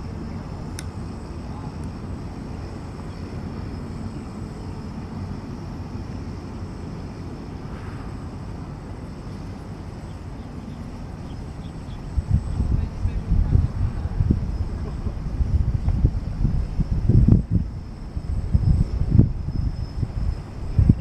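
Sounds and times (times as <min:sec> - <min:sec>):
faint high whine: 0:00.0 - 0:21.0
wind buffeting microphone: 0:00.0 - 0:21.0.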